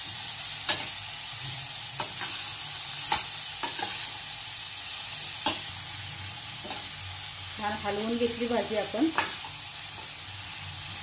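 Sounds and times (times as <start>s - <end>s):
cabbage sizzling in oil: 0.0s - 11.0s.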